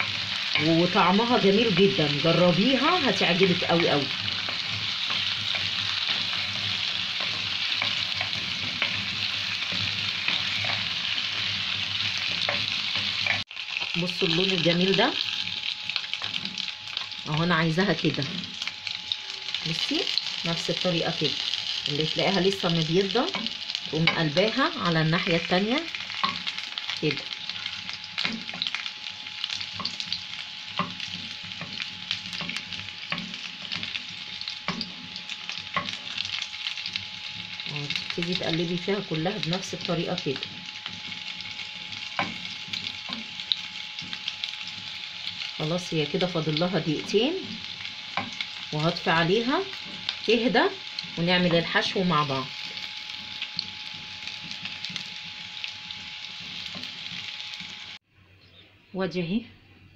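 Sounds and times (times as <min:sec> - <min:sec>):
wooden spatula scraping a pan: 0:00.0 - 0:13.5, 0:20.2 - 0:57.8
potatoes sizzling in a pan: 0:00.0 - 0:58.1.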